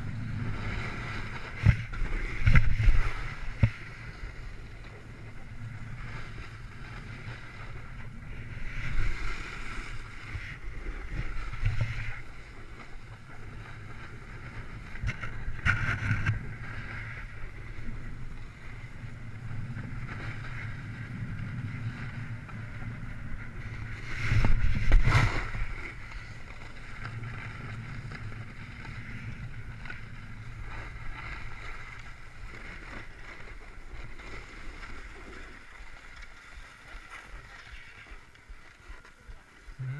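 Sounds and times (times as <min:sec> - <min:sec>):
skis scraping on packed snow: 0:00.0 - 0:15.6, 0:16.3 - 0:39.7
wind buffeting microphone: 0:00.0 - 0:34.9.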